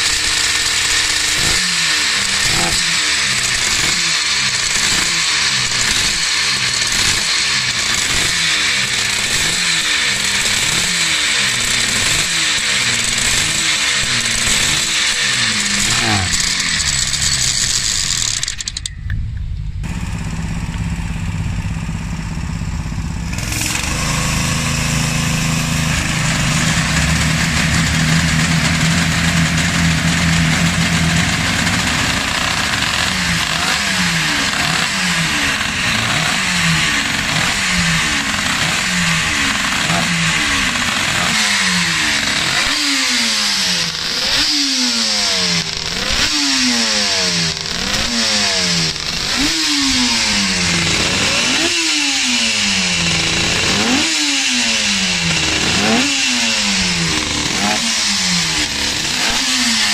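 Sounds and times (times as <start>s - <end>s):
motorcycle engine revving: 0.0s - 59.9s
roller starter droning: 0.0s - 59.9s.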